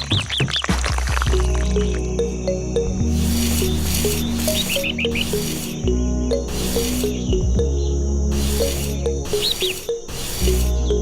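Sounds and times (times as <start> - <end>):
high chirping notes: 1.4 - 11.0.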